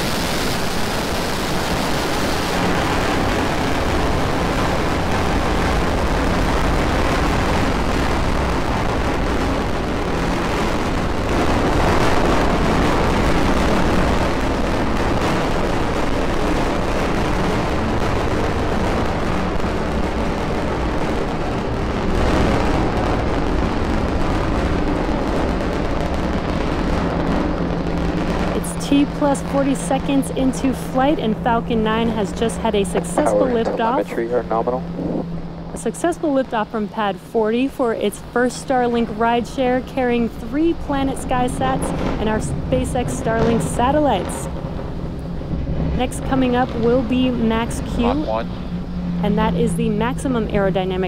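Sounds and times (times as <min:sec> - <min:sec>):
rocket engine rumble: 0:00.0 - 0:51.0.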